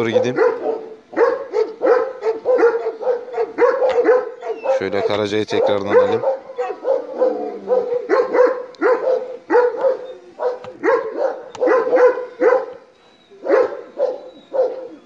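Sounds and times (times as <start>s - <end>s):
dog barking: 0.0s - 15.0s.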